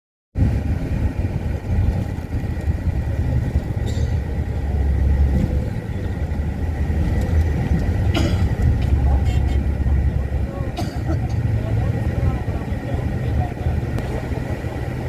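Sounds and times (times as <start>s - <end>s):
bus engine and road rumble: 0.4s - 15.0s.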